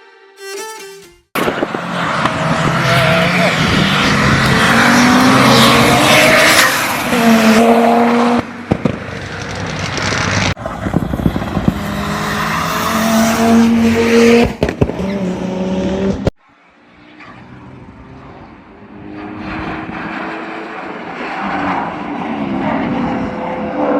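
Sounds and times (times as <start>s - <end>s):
car engine at full throttle: 1.4s - 16.3s, 17.0s - 23.9s.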